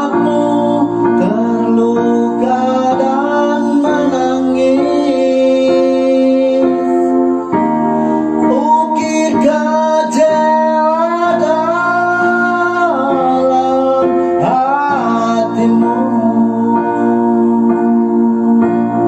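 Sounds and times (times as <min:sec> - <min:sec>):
person singing long bending notes: 0:00.0 - 0:19.0.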